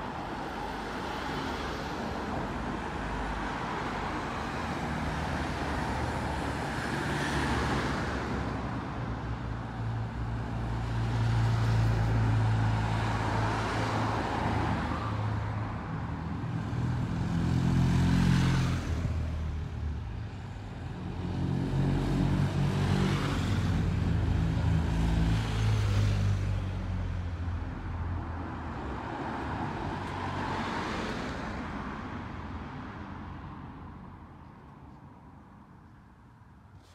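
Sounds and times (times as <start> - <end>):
vehicles driving past: 0.0 - 36.9.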